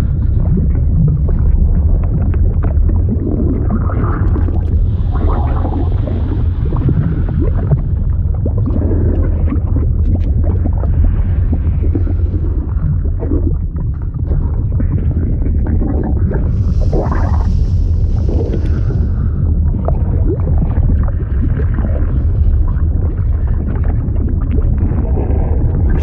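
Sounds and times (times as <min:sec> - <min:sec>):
deep rumble: 0:00.0 - 0:26.0
liquid bubbling and gurgling: 0:00.0 - 0:26.0.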